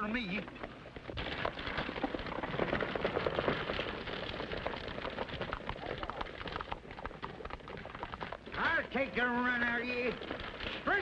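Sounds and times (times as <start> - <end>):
horse hooves stamping: 0.0 - 11.0.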